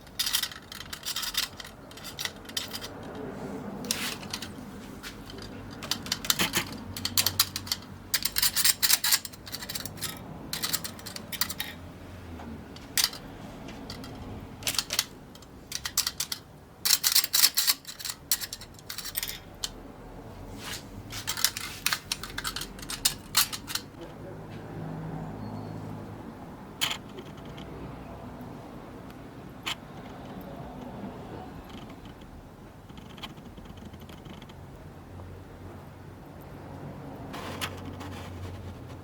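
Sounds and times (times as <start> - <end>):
metallic clicking and scraping: 0.0 - 24.2, 26.7 - 34.9, 37.2 - 39.0.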